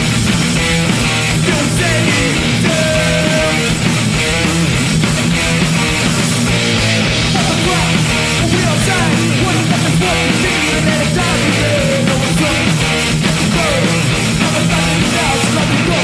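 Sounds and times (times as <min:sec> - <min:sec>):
bass guitar: 0:00.0 - 0:16.0
distorted electric guitar: 0:00.0 - 0:16.0
drums: 0:00.0 - 0:16.0.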